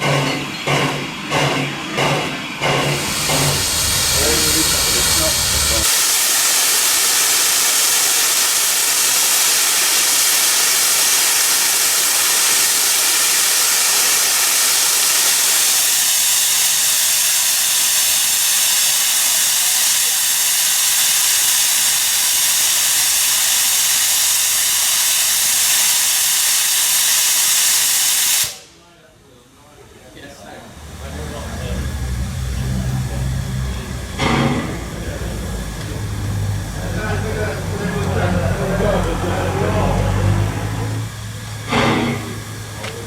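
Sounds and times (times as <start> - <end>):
steam locomotive hissing steam: 0.0 - 28.8, 30.7 - 43.0.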